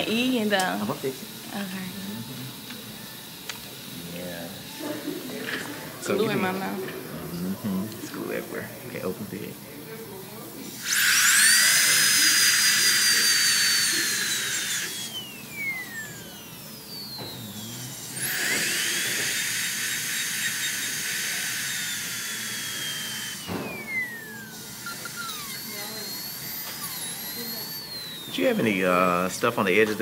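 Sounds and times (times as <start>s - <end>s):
dental drill whining: 0.0s - 30.0s.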